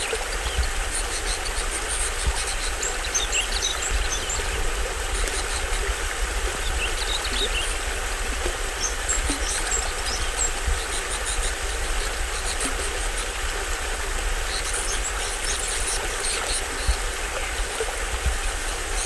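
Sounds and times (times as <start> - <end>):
forest birds chirping: 0.0 - 17.6
low water rumble: 0.0 - 19.0
small waterfall splashing: 0.0 - 19.0.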